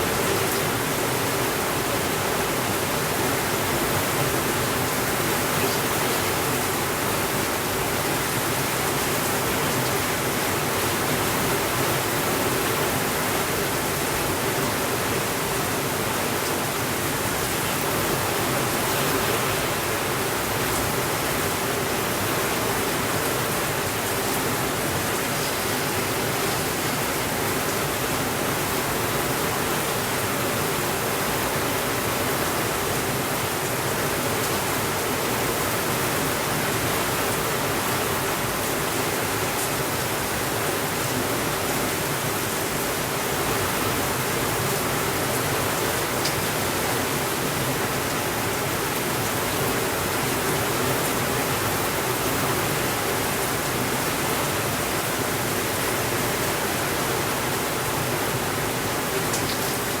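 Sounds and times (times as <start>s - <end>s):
steady rainfall: 0.0s - 60.0s.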